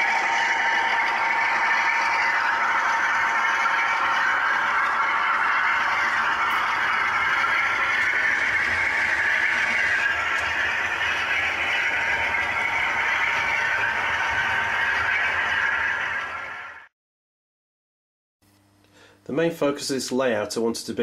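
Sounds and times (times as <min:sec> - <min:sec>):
model train wheels rattling: 0:00.0 - 0:16.8.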